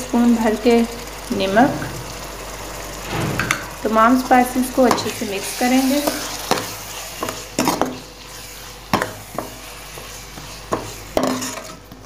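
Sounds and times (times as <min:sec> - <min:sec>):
sizzling frying in oil: 0:00.0 - 0:03.1, 0:03.7 - 0:12.0.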